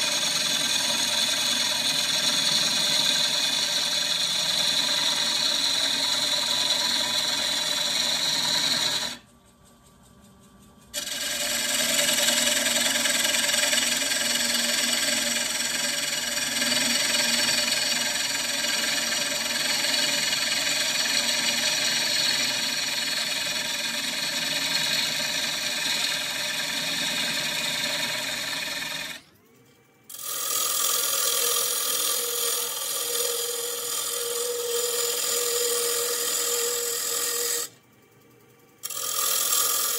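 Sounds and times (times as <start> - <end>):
gouge cutting wood on a lathe: 0.0 - 9.2, 11.0 - 29.2, 30.1 - 37.7, 38.8 - 39.9.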